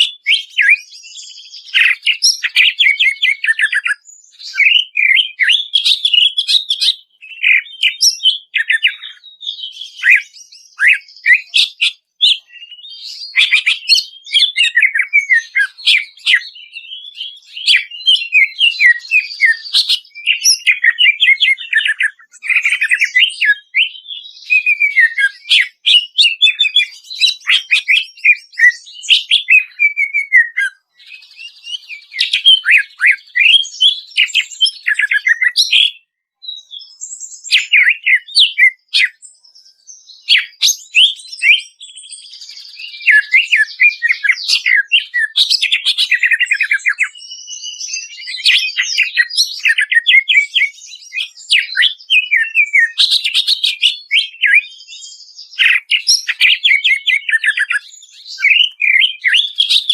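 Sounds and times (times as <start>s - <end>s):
bird singing chattering song: 0.0s - 59.9s.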